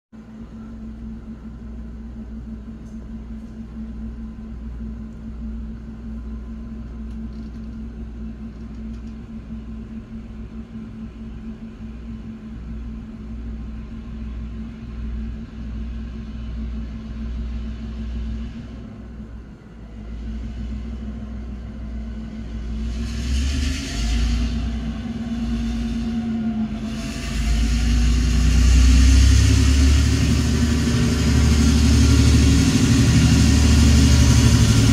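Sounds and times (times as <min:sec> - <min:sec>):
freight train locomotive engine: 0:00.1 - 0:34.9.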